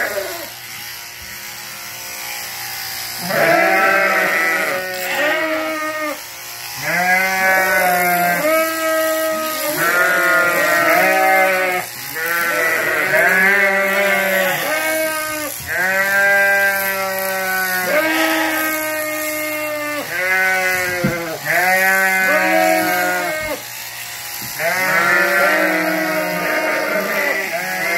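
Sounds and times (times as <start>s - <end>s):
sheep bleating: 0.0s - 0.6s, 3.2s - 23.9s, 24.5s - 27.9s.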